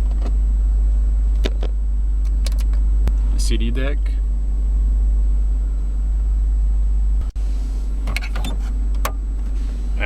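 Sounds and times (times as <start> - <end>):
engine idling rumble: 0.0 - 10.0.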